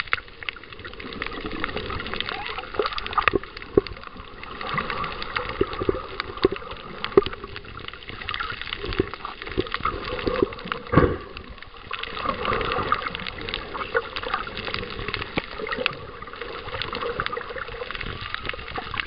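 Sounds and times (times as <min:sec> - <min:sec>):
sharp clicks and crackles: 0:00.0 - 0:19.0
water sloshing and gurgling underwater: 0:00.0 - 0:19.0.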